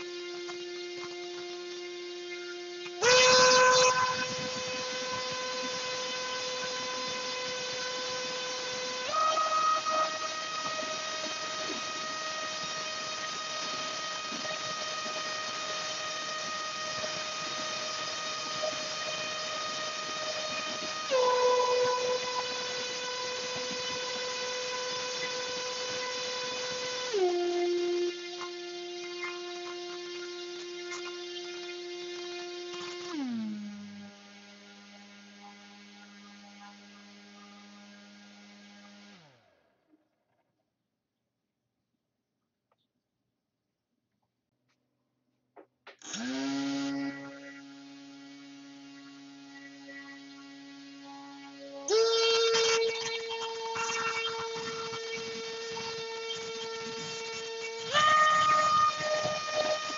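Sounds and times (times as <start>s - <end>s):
motor and propeller whining: 0.0s - 39.7s, 46.0s - 59.9s.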